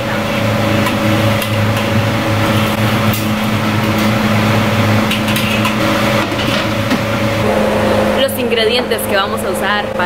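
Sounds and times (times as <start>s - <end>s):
kitchen ventilation hum and rush: 0.0s - 10.0s.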